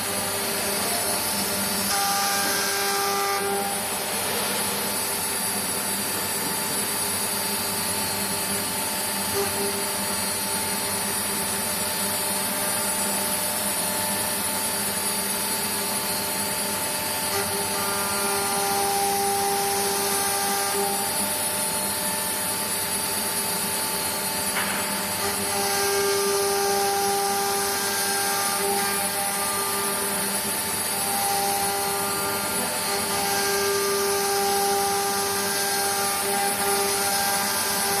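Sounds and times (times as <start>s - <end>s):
router bit cutting: 0.0s - 21.4s, 24.0s - 38.0s
router spindle whining: 0.0s - 38.0s.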